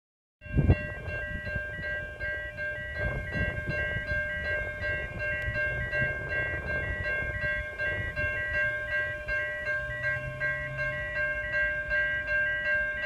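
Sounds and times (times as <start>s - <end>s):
steady high tones: 0.4s - 13.0s.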